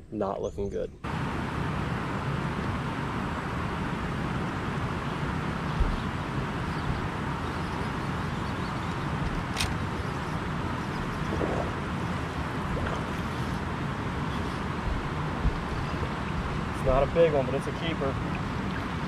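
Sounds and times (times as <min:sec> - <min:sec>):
boat engine running: 0:01.1 - 0:19.0.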